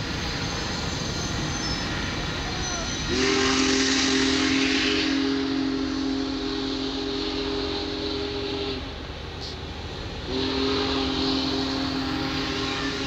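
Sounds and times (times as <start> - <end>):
steam locomotive chime whistle: 0.0 - 13.0
train cars rumbling on rails: 0.0 - 13.0.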